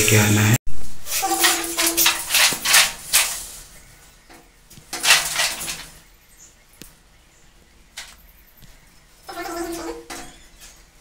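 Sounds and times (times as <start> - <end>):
electrical wires rustling and scraping: 0.8 - 11.0.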